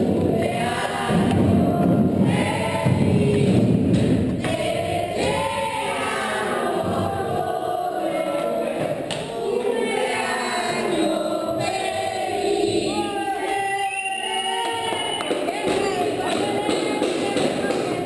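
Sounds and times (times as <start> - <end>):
choir-like singing: 0.0 - 18.0.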